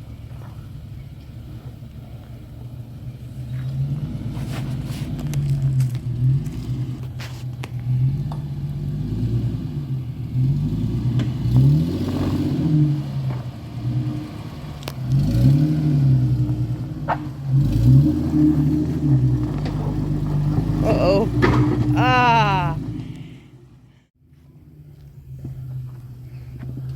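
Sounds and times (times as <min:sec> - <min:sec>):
off-road vehicle engine revving: 0:00.0 - 0:24.1.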